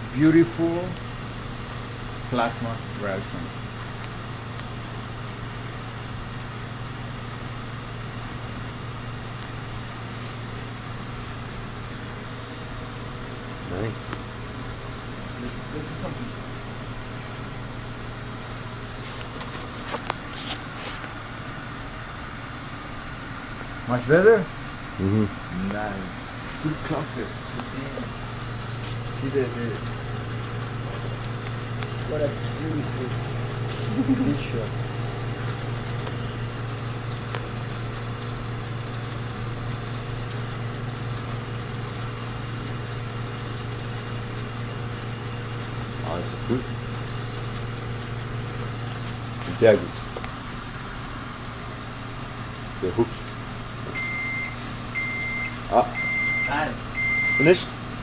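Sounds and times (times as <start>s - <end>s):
steady machine hum and hiss: 0.0s - 58.0s
vacuum pump running: 0.0s - 58.0s.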